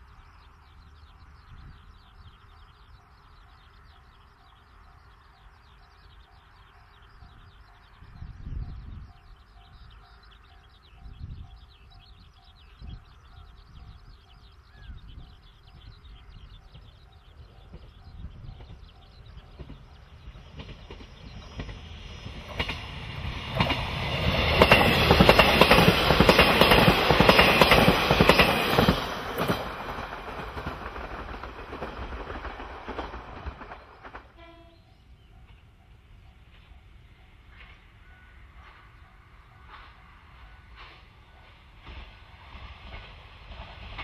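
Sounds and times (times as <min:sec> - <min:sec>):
diesel train rumbling: 0:00.0 - 0:44.0.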